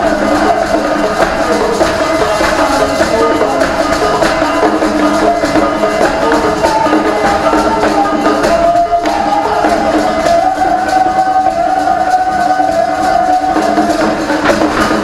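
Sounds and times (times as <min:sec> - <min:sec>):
hand percussion: 0:00.0 - 0:15.0
voices singing together: 0:00.0 - 0:15.0.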